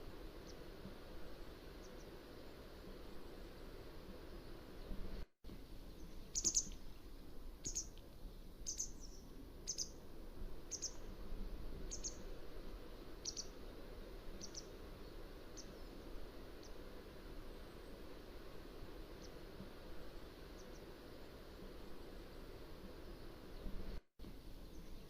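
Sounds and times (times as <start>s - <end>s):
low background hiss: 0.0s - 25.0s.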